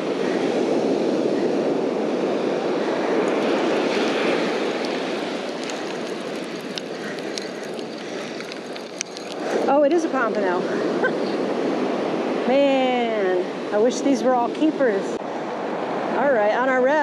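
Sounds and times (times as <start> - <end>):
breaking surf: 0.0 - 13.8
wind on microphone: 0.0 - 17.0.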